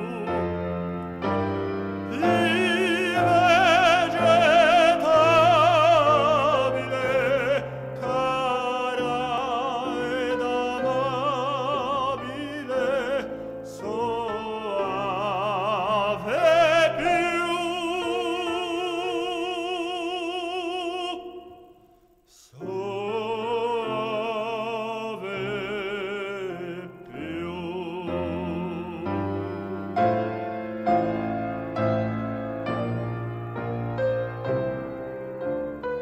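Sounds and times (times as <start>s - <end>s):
musical accompaniment: 0.0s - 36.0s
tenor operatic singing: 0.0s - 36.0s.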